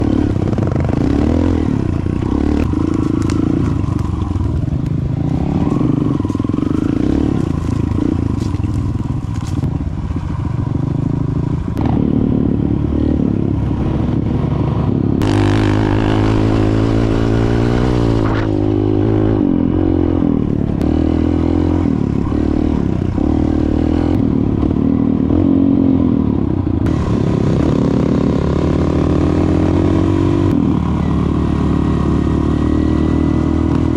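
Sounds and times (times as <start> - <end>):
dirt bike engine revving: 0.0 - 10.4, 11.0 - 33.9.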